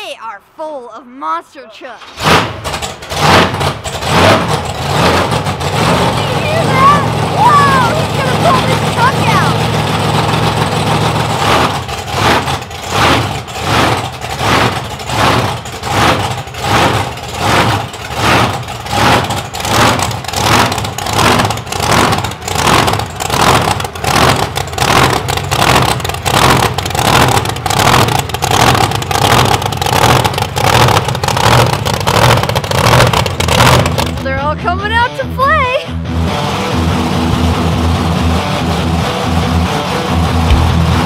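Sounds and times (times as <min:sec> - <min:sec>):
monster truck engine running: 0:02.0 - 0:41.0.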